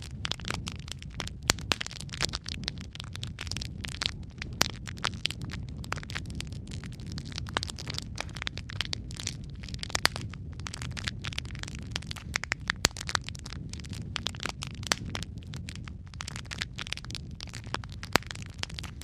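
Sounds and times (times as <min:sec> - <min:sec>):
fire pops and snaps: 0:00.0 - 0:19.0
low rumble of flames: 0:00.0 - 0:19.0.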